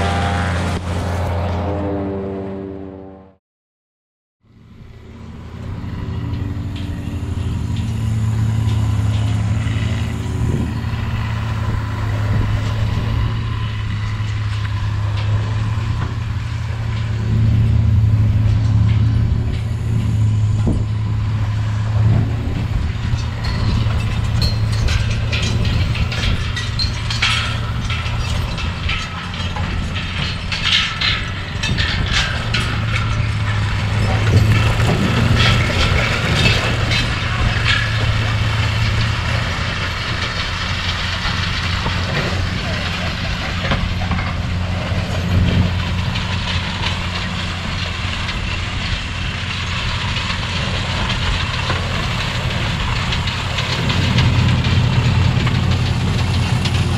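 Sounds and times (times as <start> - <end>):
engine running steadily: 4.5 - 56.9
mechanical rattling and clatter: 6.2 - 56.9.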